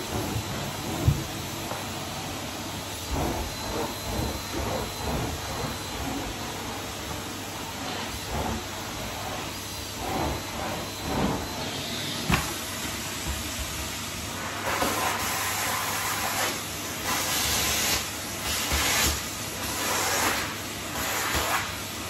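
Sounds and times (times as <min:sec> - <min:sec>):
vacuum cleaner suction hiss: 0:00.0 - 0:22.0.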